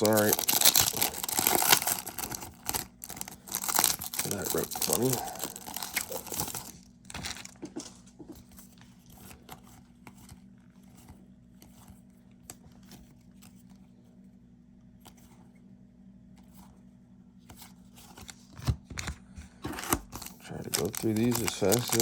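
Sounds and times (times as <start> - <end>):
trading cards and wrapper rustling: 0.0 - 13.8, 17.7 - 22.0
steady low hum: 0.0 - 22.0.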